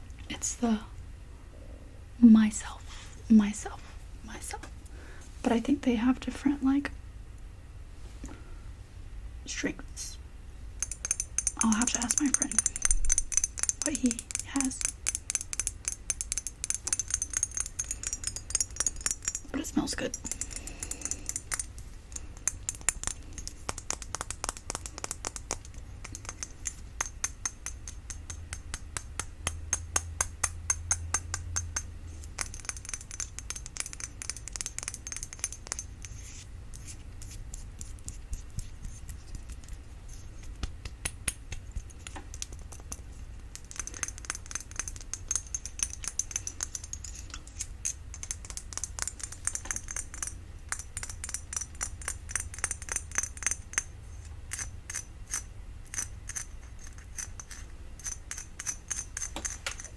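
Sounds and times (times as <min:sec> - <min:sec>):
tapping on glass bottle: 0:10.8 - 0:53.9, 0:54.5 - 0:59.9.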